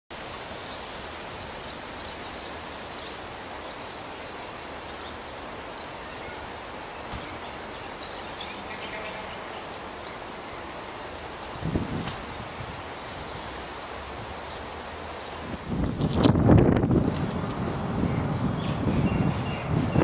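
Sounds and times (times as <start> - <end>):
outdoor ambient hiss: 0.1 - 20.0
small birds chirping: 0.4 - 16.0, 18.1 - 20.0.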